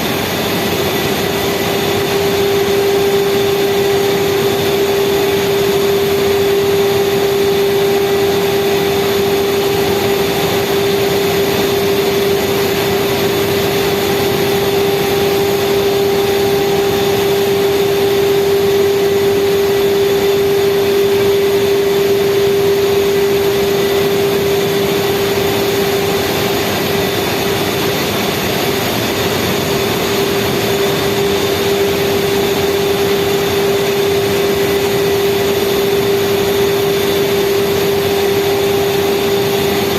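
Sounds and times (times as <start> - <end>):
speedboat engine droning: 0.0 - 39.9.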